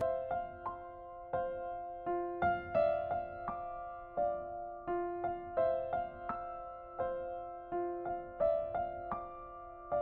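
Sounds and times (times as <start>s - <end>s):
slow piano notes ringing: 0.0s - 10.0s.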